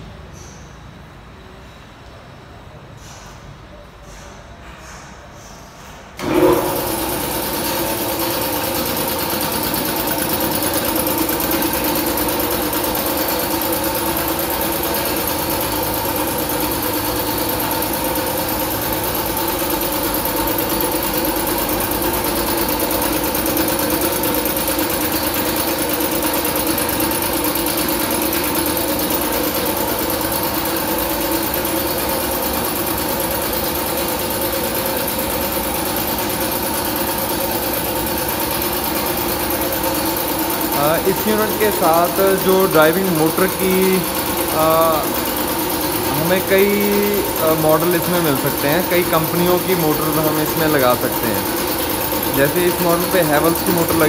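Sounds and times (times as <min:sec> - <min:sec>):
air compressor humming: 0:05.7 - 0:54.0.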